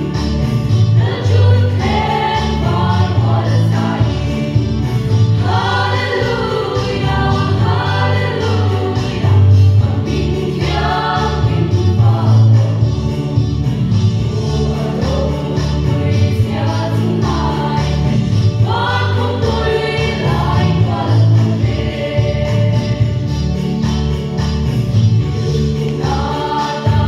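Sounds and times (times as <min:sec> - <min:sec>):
women's choir singing: 0:00.0 - 0:23.5, 0:25.4 - 0:27.0
low bass notes: 0:00.0 - 0:27.0.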